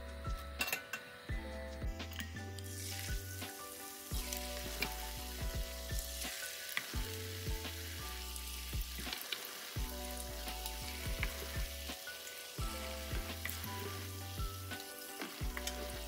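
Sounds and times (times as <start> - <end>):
instrumental background music: 0.0 - 16.0
batter sizzling in hot oil: 2.0 - 16.0.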